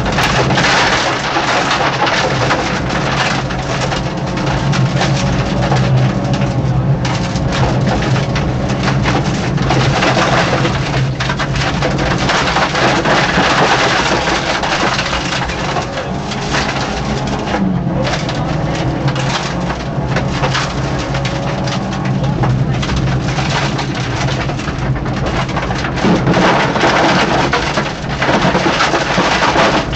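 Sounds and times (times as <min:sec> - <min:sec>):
car engine running hard: 0:00.0 - 0:29.9
clatter of sharp clicks and knocks: 0:00.0 - 0:29.9
road noise: 0:00.0 - 0:29.9.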